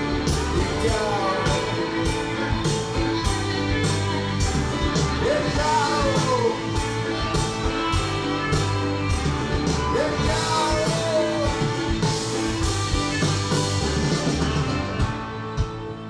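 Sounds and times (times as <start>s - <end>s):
drum beat: 0.0s - 16.0s
guitars: 0.0s - 16.0s
sliding singing-like melody: 0.0s - 16.0s.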